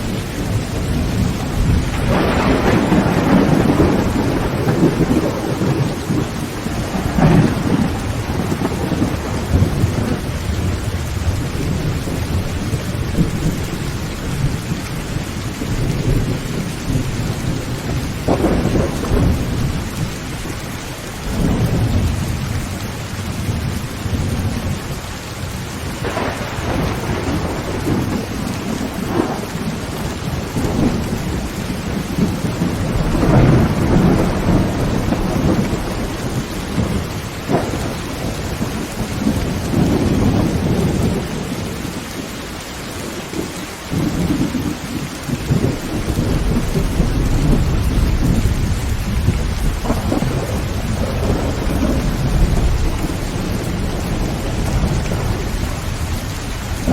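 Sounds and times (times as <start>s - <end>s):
heavy rain on a tin roof: 0.0s - 56.9s
thunder rumbling: 0.0s - 56.9s.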